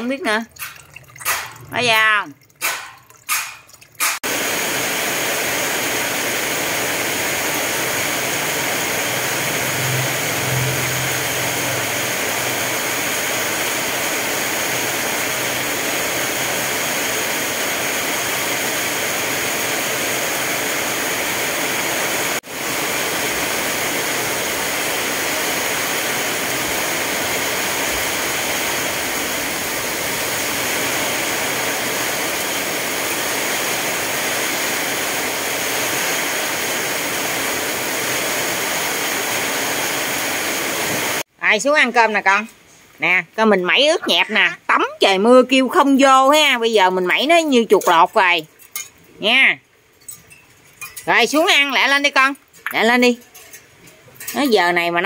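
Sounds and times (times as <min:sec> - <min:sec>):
running water: 0:00.0 - 0:55.0
rain hissing: 0:03.6 - 0:55.0.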